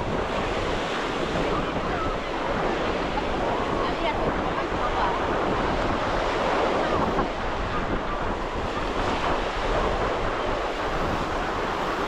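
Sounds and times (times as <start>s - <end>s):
ocean surf on sandy beach: 0.0s - 12.0s
wind buffeting microphone: 0.0s - 12.0s.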